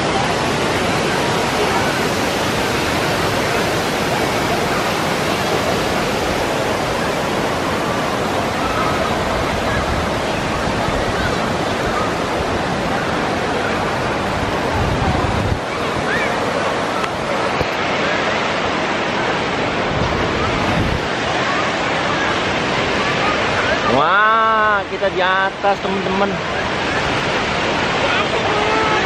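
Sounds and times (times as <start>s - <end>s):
faint voices of swimmers: 0.0s - 24.9s, 26.0s - 29.0s
water churning and roaring: 0.0s - 29.0s.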